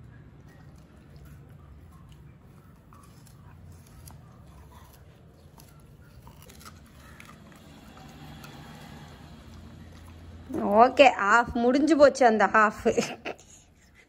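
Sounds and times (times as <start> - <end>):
dog chewing sugarcane: 0.0 - 12.0.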